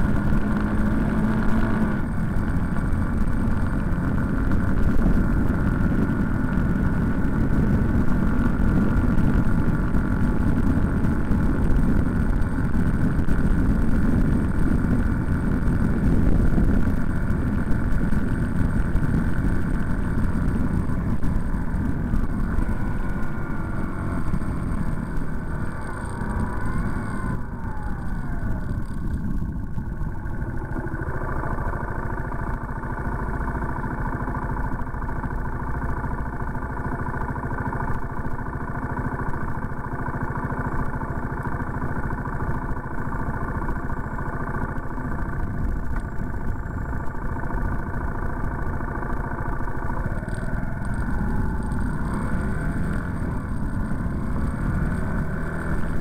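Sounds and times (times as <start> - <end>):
road noise: 0.0 - 56.0
vehicle engine slowing and idling: 0.0 - 56.0.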